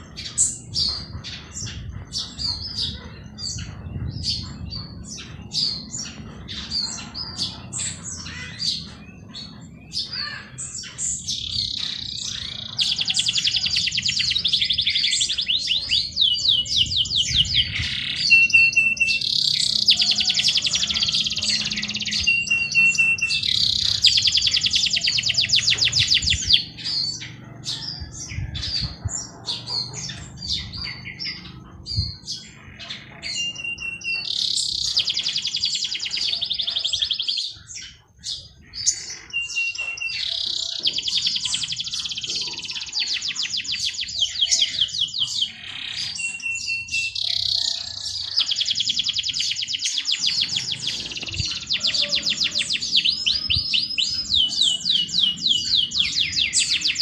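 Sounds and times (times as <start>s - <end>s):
rapid bird trilling songs: 0.0s - 57.0s
songbirds chirping: 0.0s - 57.0s.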